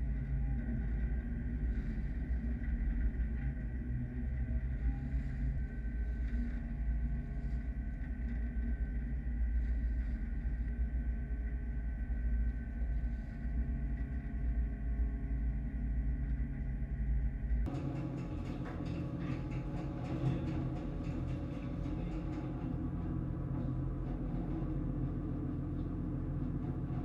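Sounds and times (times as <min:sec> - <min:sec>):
low machinery rumble: 0:00.0 - 0:27.0.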